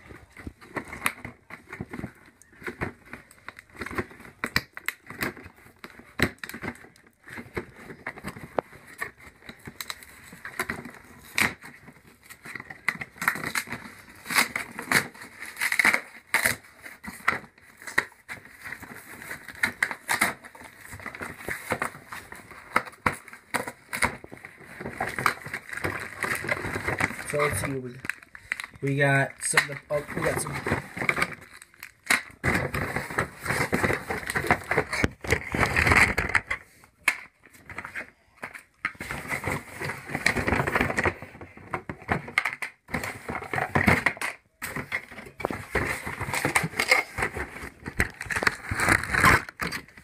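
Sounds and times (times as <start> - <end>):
cardboard rustling and scraping: 0.0 - 36.8, 37.4 - 50.0.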